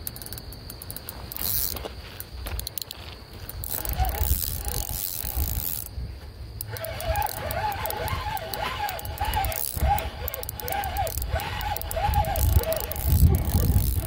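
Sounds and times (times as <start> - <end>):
fishing reel clicker ratcheting: 0.1 - 1.8, 2.6 - 5.9, 6.6 - 14.0.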